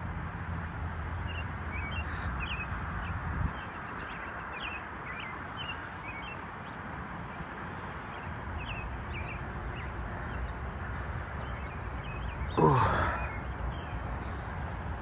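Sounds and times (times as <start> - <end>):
small birds chirping: 1.0 - 15.0.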